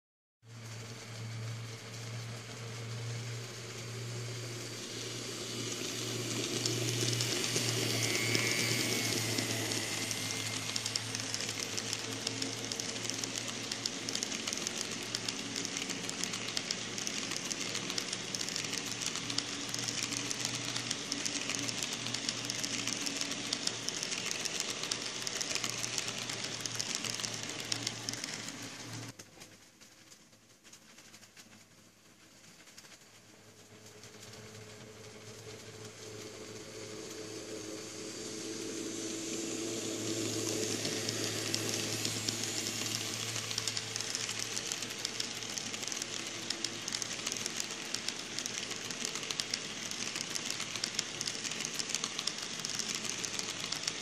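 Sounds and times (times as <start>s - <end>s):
model train wheels rattling: 0.6s - 54.0s.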